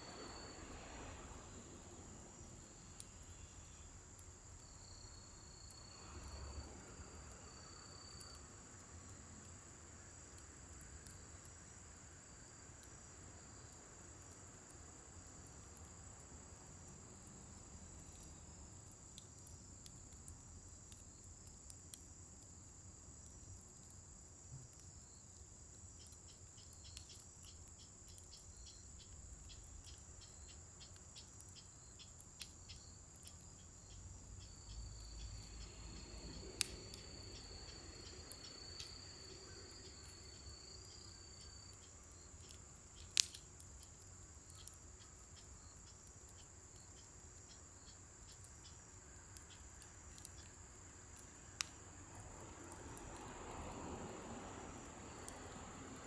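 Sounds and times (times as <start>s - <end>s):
bonfire crackling and popping: 0.1s - 56.0s.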